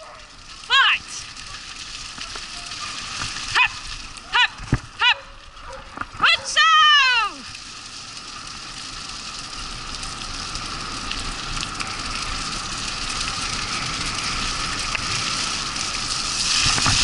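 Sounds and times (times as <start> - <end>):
wheels rolling over dirt trail: 0.0 - 6.2, 6.8 - 17.0.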